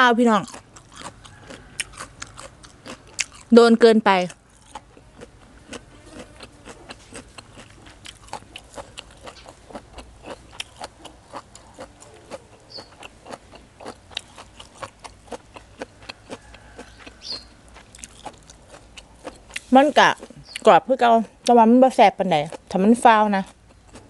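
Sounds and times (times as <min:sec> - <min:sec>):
crunchy chewing: 0:00.1 - 0:24.0.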